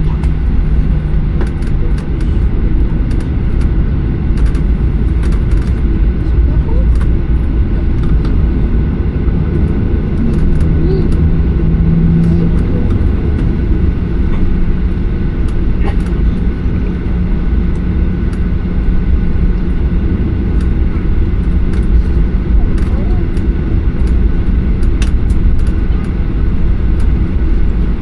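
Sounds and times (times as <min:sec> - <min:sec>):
aircraft cabin engine rumble: 0:00.0 - 0:28.0
steady low hum: 0:00.0 - 0:28.0.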